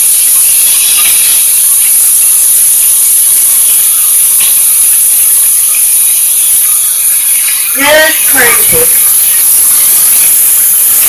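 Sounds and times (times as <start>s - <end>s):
hiss of rushing water: 0.0s - 11.0s.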